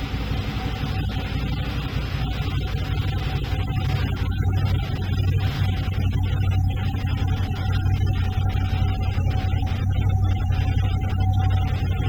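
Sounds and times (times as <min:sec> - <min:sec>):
faint steady whine: 0:00.0 - 0:12.0
low engine rumble: 0:00.0 - 0:12.0.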